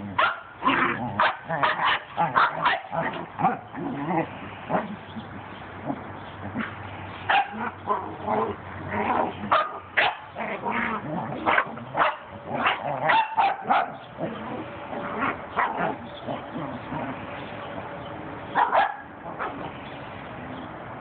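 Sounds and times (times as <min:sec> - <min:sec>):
small dogs barking and yipping: 0:00.0 - 0:17.7, 0:18.5 - 0:19.8.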